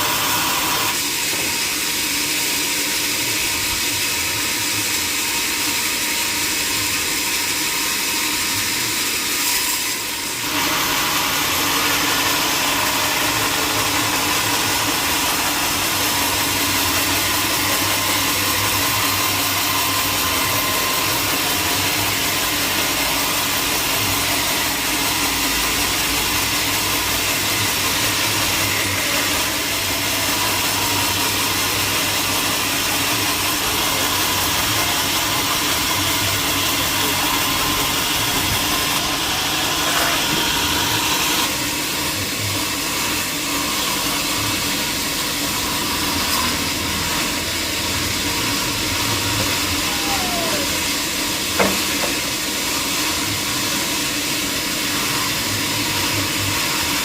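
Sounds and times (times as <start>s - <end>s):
sawmill machinery whirring: 0.0s - 57.0s.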